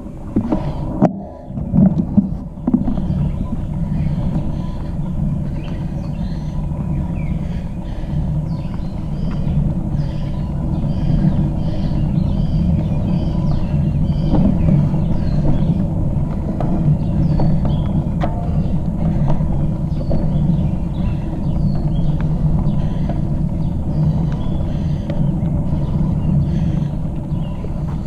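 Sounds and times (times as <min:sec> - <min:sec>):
birds chirping: 0:00.0 - 0:28.0
wind and tyre rumble: 0:00.0 - 0:28.0.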